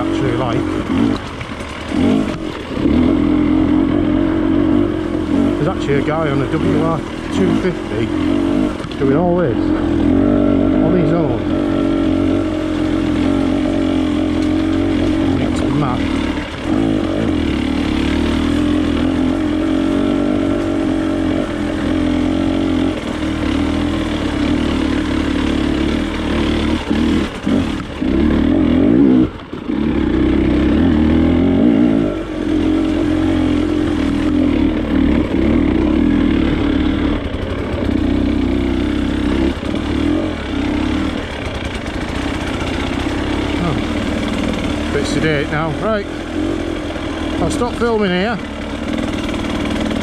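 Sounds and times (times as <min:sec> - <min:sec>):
off-road motorcycle engine revving: 0:00.0 - 0:50.0.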